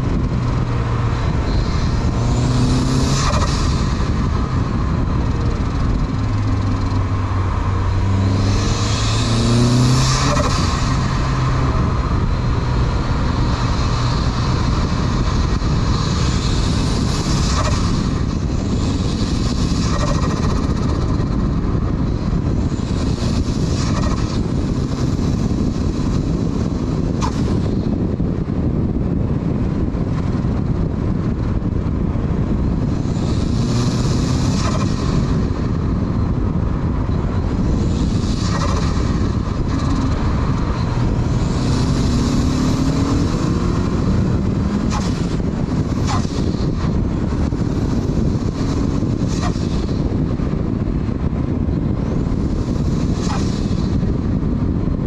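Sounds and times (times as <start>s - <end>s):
car engine revving: 0.0s - 55.0s
wind and road noise: 0.0s - 55.0s.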